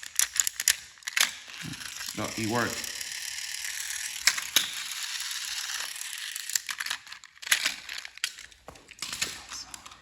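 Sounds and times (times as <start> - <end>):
toy train motor whirring: 0.0 - 8.5.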